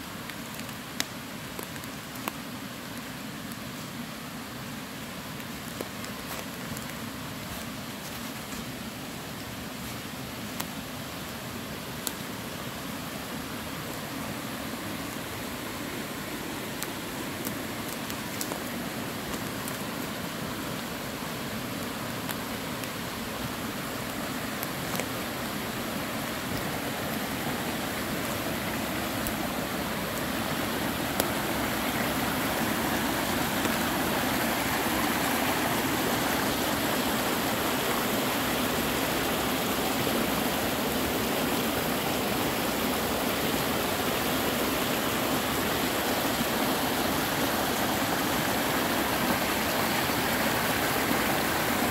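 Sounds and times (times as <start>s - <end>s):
creek rushing over rocks: 0.0s - 51.9s.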